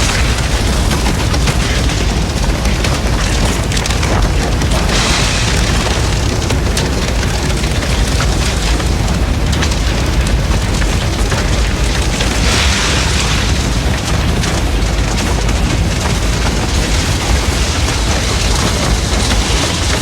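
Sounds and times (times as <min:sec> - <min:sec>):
fire crackling and snapping: 0:00.0 - 0:20.0
fire roaring: 0:00.0 - 0:20.0
flames hissing: 0:00.0 - 0:20.0.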